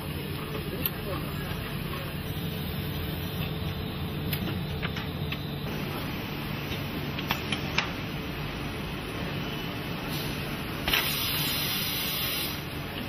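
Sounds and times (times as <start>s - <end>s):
machinery humming and hissing: 0.0s - 13.0s.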